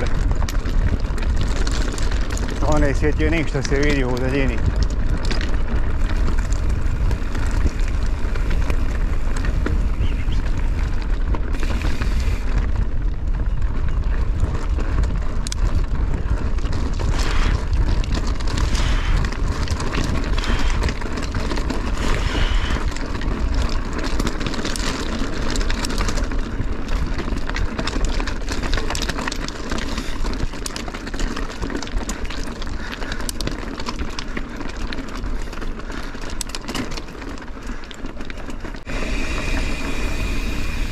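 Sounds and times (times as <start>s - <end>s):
bike rattling and clicking: 0.0s - 40.9s
tyres crunching on stones: 0.0s - 40.9s
wind rumble on microphone: 0.0s - 40.9s.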